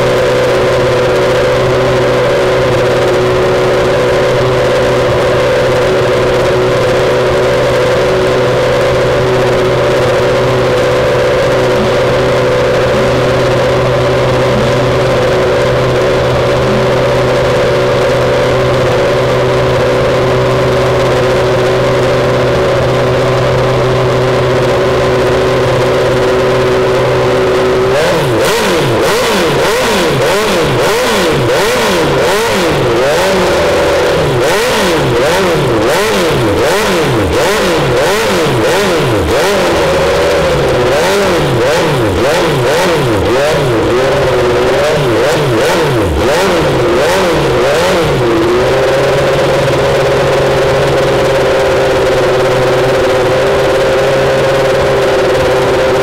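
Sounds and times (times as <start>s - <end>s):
racing engine revving: 0.0s - 56.0s.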